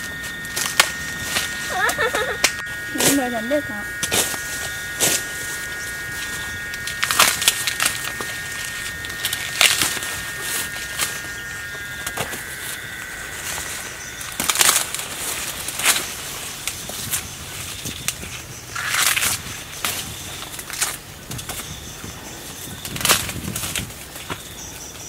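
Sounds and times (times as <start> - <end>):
corn leaves rustling: 0.0 - 25.0.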